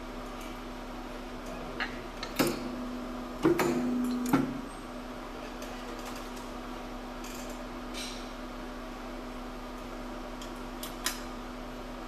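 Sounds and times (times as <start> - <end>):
press steady low hum: 0.0 - 12.0.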